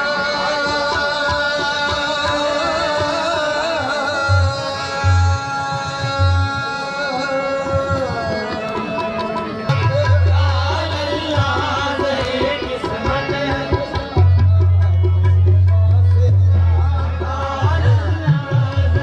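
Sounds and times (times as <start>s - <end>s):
tabla drumming: 0.0s - 19.0s.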